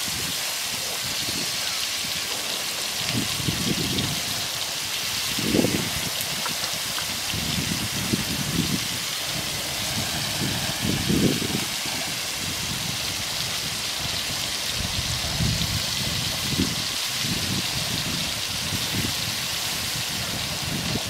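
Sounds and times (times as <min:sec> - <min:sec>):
prawns sizzling in hot oil: 0:00.0 - 0:21.0.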